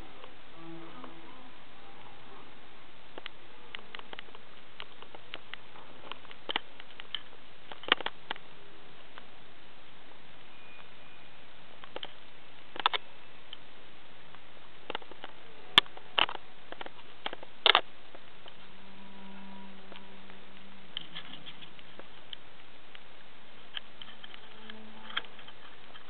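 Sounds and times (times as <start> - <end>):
faint low hum: 0.0 - 26.0
steady hiss: 0.0 - 26.0.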